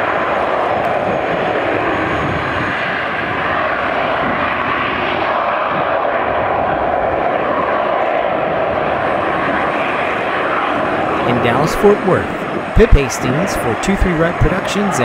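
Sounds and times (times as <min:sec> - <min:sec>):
jet engine roar at takeoff: 0:00.0 - 0:15.0.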